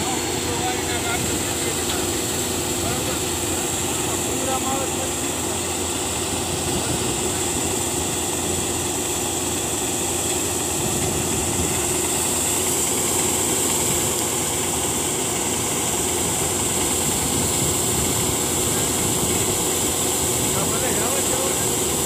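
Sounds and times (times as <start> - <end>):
combine harvester engine drone: 0.0 - 22.0
grain auger discharging: 0.0 - 22.0.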